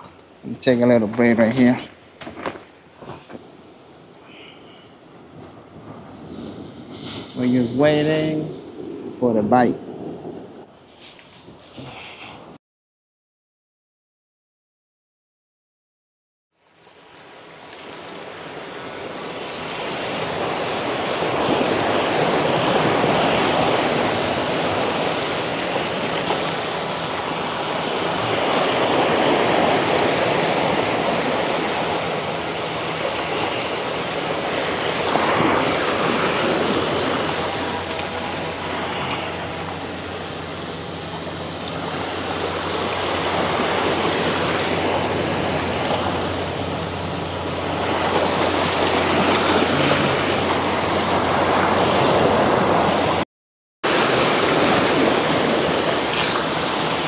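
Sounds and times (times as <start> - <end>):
ocean surf on rocky shore: 0.0 - 12.6, 16.7 - 53.2, 53.9 - 57.0.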